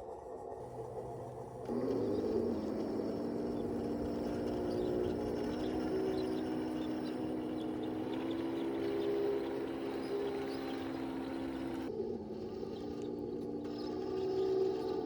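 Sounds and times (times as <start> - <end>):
toy tank motors whining: 0.6 - 15.0.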